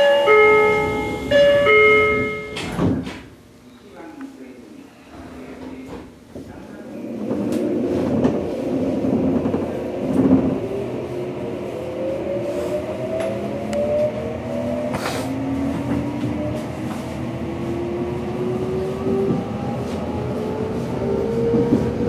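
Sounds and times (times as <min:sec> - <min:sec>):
wheels rumbling on rail: 0:00.0 - 0:03.3, 0:05.2 - 0:22.0.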